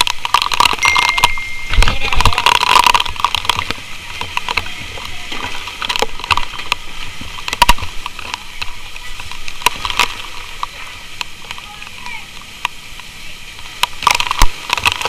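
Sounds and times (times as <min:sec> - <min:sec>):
crackles and knocks: 0:00.0 - 0:15.0
fire hose water spraying: 0:00.0 - 0:15.0.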